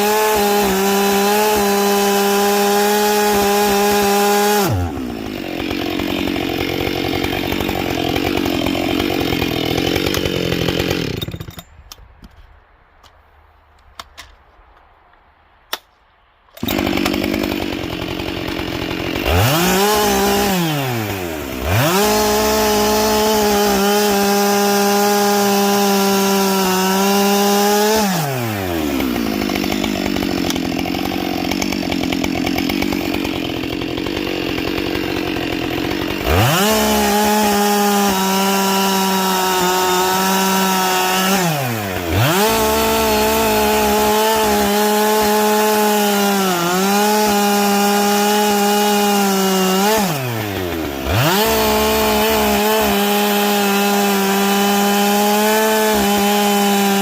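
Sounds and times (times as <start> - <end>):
chainsaw cutting wood: 0.0 - 12.0, 16.6 - 57.0.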